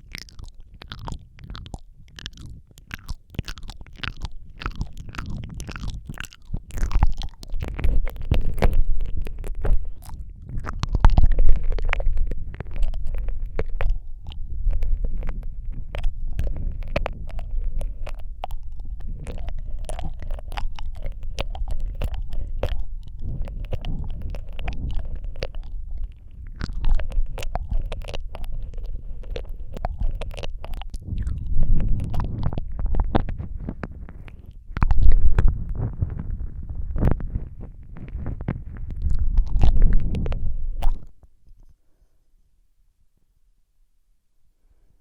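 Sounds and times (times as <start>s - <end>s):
low rumble: 0.0s - 41.2s
wet mouth clicks and smacks: 0.0s - 41.7s.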